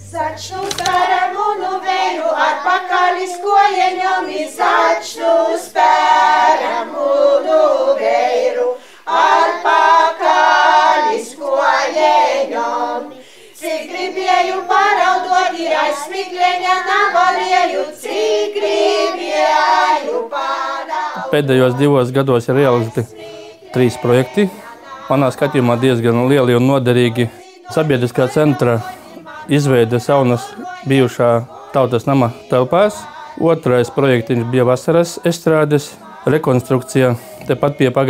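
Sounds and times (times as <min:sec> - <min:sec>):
women and girls singing folk song: 0:00.0 - 0:38.0.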